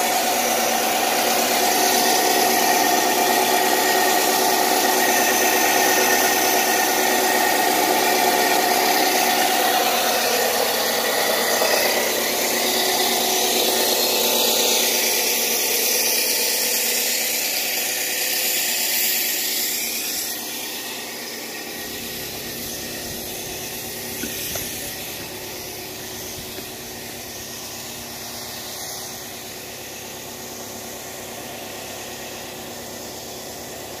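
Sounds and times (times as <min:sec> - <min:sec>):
rock-cutting saw droning: 0:00.0 - 0:34.0.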